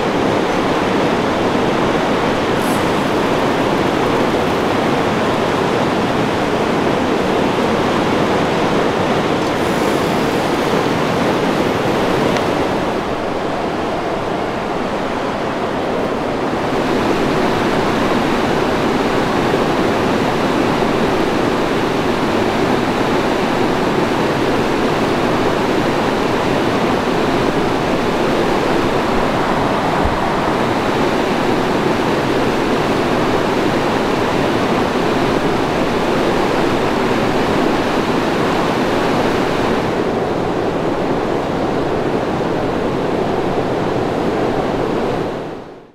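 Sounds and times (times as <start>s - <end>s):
running water rushing: 0.0s - 44.9s.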